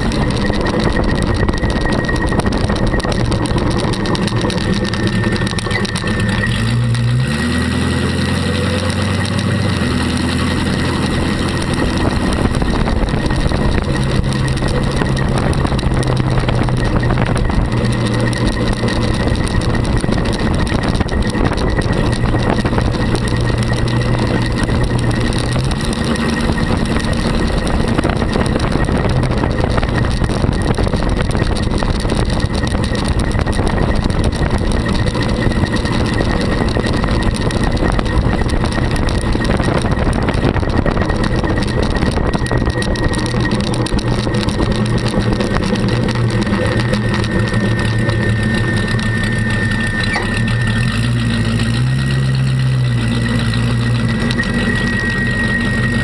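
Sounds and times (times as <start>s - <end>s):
engine running: 0.0s - 56.0s
wind and road noise: 0.0s - 56.0s.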